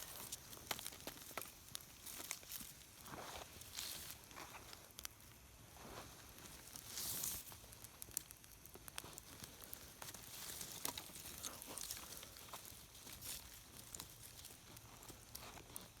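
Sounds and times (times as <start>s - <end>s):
sharp pops of fire: 0.0s - 15.5s
campfire crackling: 0.0s - 16.0s.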